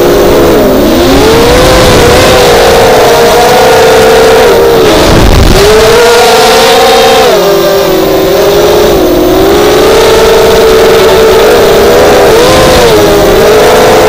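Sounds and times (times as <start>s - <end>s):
quadcopter motors buzzing whine: 0.0s - 14.0s.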